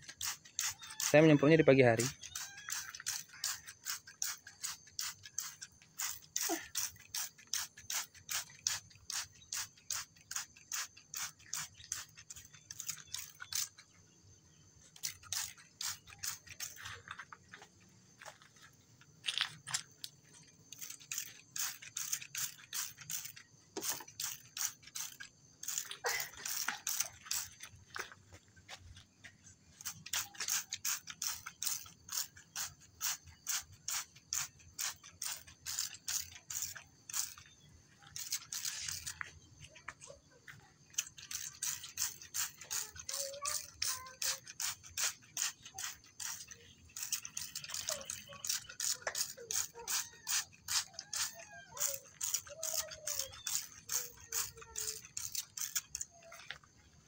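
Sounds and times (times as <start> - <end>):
spray bottle clicking and squirting: 0.0 - 14.0, 14.9 - 18.1, 19.2 - 28.1, 29.8 - 56.8.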